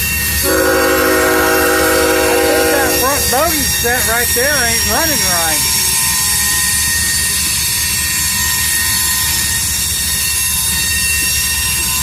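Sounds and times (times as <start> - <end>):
high wheel whines: 0.0 - 11.6
train wheels rumbling on rail: 0.0 - 12.0.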